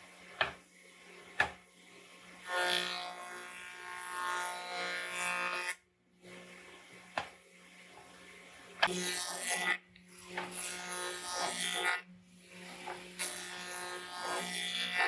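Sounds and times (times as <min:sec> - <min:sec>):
faint workshop noise: 0:00.0 - 0:15.0.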